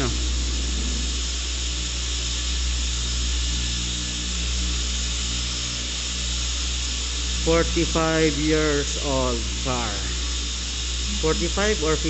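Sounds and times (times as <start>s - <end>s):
electric motor hum with hiss: 0.0s - 12.0s.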